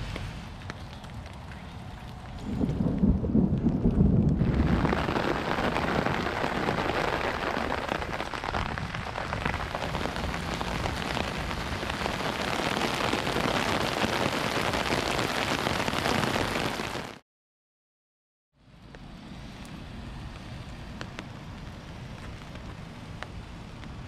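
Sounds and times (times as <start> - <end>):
rain on wet pavement: 0.0 - 17.2, 19.4 - 24.0.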